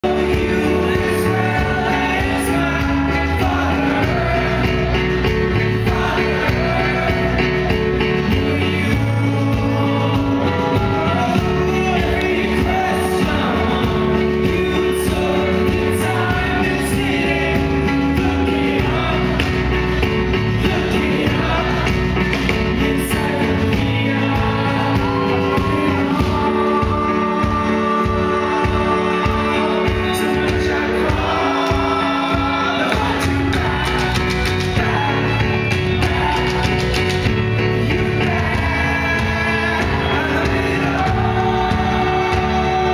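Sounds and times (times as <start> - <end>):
live rock band playing: 0.0 - 42.9
steady drumbeat: 0.0 - 42.9.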